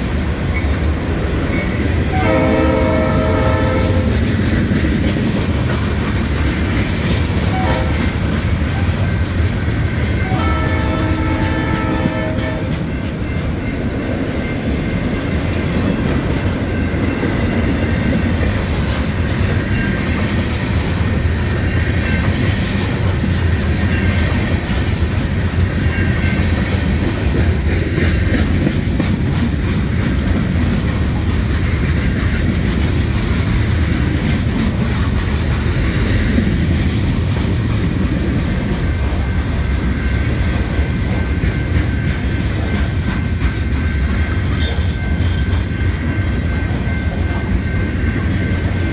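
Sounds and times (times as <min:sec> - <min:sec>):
steel wheels rumbling on rail: 0:00.0 - 0:48.9.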